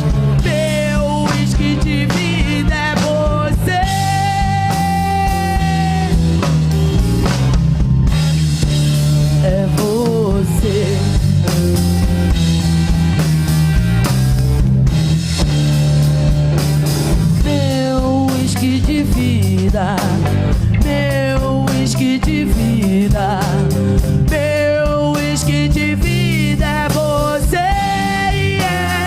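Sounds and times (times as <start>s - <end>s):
electric lead guitar bending notes: 0.0s - 29.0s
live rock band playing: 0.0s - 29.0s.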